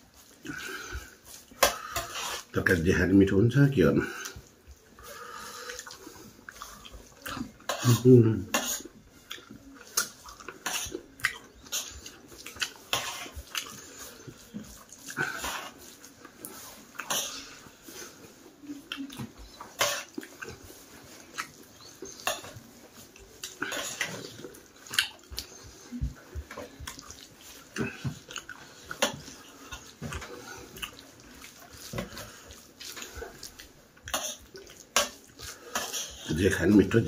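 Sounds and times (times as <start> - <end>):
fingers mixing food on metal plate: 0.1 - 2.8, 4.0 - 37.0
man chewing and lip smacking: 4.2 - 36.3.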